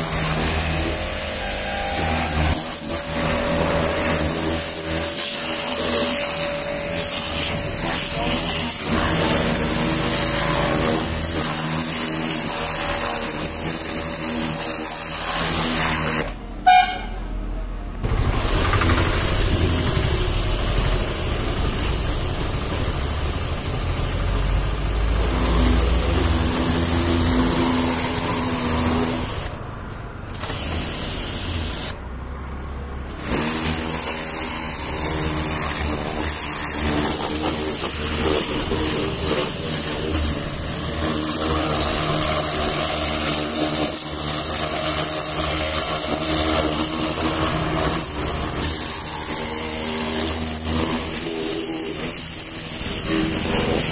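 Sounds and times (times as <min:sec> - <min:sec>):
pressure washer spraying: 0:00.0 - 0:17.0, 0:18.0 - 0:32.0, 0:33.1 - 0:53.9.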